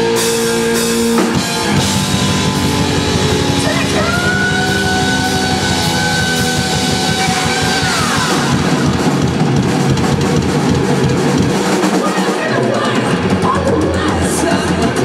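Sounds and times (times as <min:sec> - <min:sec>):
distorted electric guitar: 0:00.0 - 0:15.0
pounding drum kit: 0:00.0 - 0:15.0.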